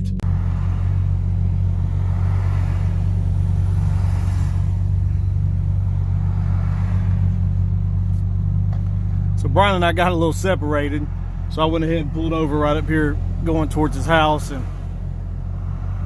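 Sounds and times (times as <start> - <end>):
car engine cruising drone: 0.0 - 16.0
tyre and road noise: 0.0 - 16.0.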